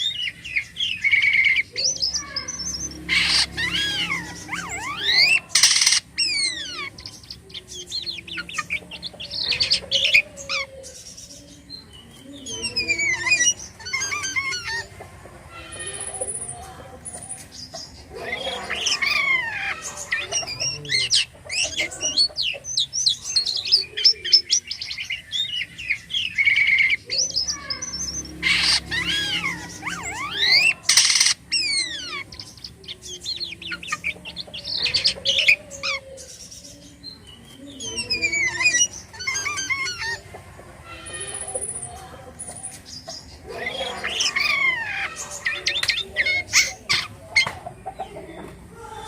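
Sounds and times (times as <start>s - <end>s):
harsh rasping squawks: 0.0s - 11.1s, 12.4s - 36.5s, 37.8s - 48.0s
starling singing: 0.0s - 49.0s.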